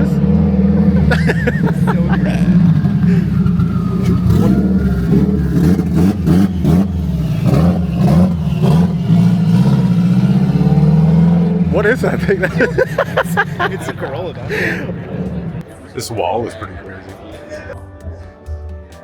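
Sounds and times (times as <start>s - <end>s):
voices: 0.0s - 9.2s, 11.5s - 19.0s
car engine droning: 0.0s - 15.9s.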